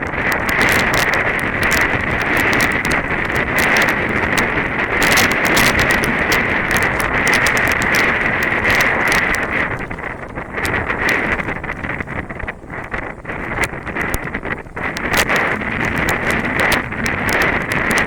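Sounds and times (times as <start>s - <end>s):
running footsteps on path: 0.0s - 18.0s
wind buffeting microphone: 0.0s - 18.0s.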